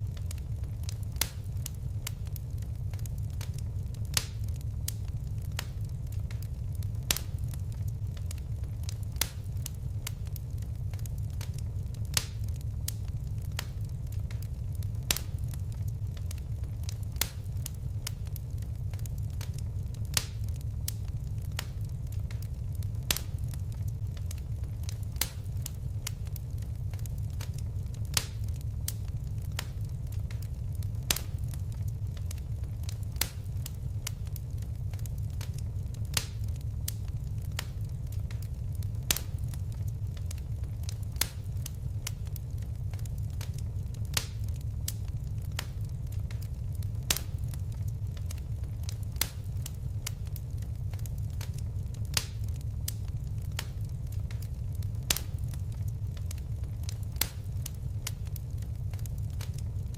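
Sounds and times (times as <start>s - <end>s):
fire crackles and pops: 0.0s - 59.9s
low rumble of flames: 0.0s - 59.9s.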